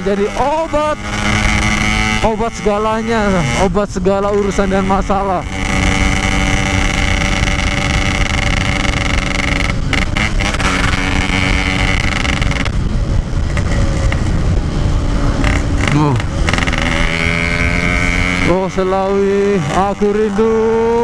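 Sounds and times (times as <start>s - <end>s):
two-stroke motorcycle engine: 0.0s - 21.0s
wind rumble on microphone: 0.0s - 21.0s.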